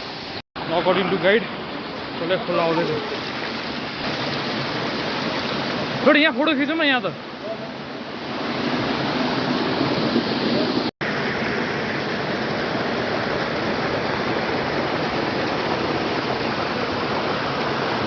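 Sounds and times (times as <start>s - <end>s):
stream water rushing over rocks: 0.0s - 18.0s.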